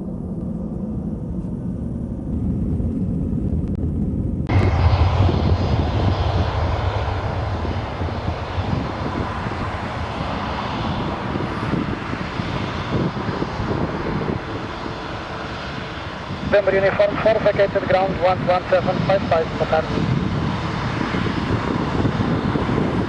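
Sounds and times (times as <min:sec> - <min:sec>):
jet engines rushing: 0:00.2 - 0:23.0.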